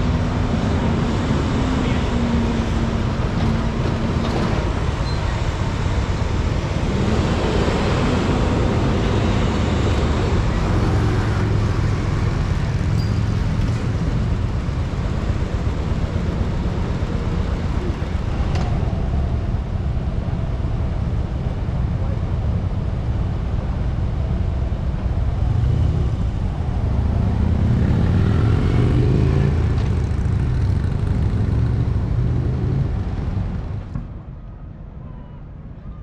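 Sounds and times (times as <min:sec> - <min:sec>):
trucks and motorcycles passing: 0:00.0 - 0:34.3.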